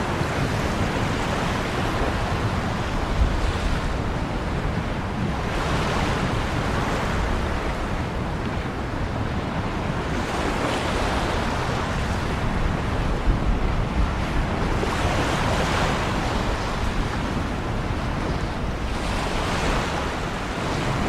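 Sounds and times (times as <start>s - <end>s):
ocean waves breaking: 0.0s - 21.0s
wind rumble on microphone: 0.0s - 21.0s.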